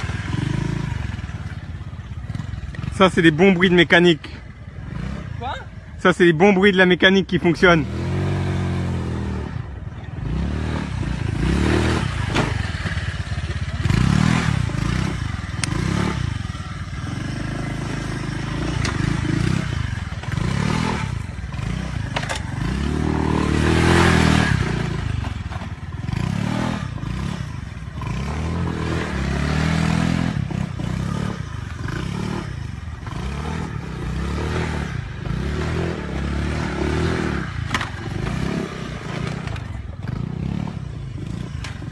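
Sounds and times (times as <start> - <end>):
motorbike engine revving: 0.0 - 41.9.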